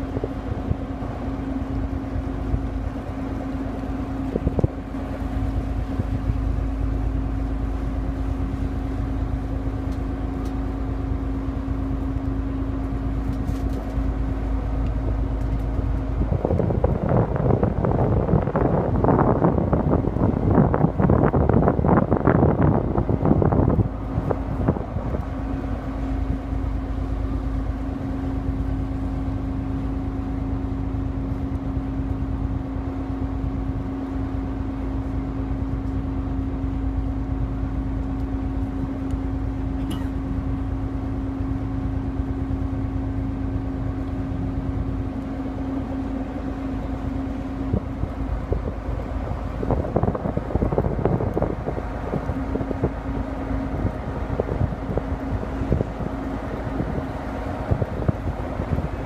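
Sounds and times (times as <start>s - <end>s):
boat engine rumbling: 0.0s - 59.0s
wind buffeting microphone: 0.0s - 59.0s.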